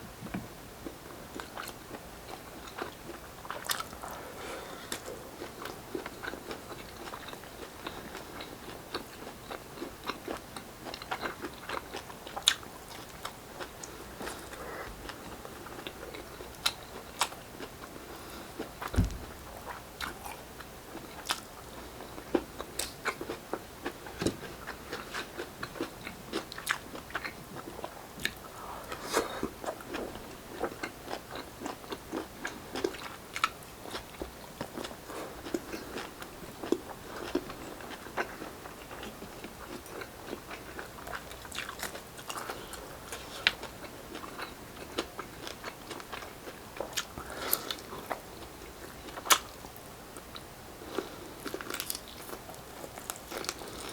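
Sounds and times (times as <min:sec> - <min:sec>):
crunchy chewing: 0:01.4 - 0:53.9.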